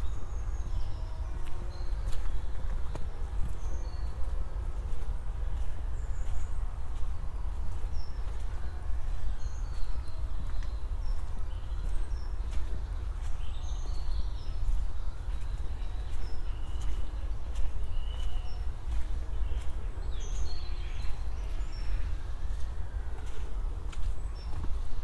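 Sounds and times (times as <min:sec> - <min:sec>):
footsteps on a path: 0:00.7 - 0:25.0.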